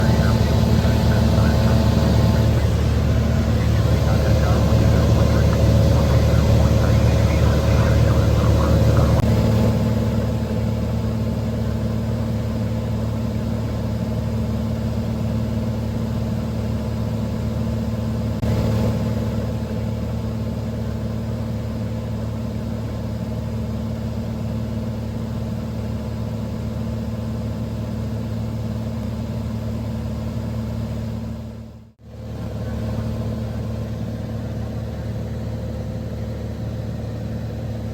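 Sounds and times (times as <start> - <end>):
propeller plane engine droning: 0.0 - 37.9.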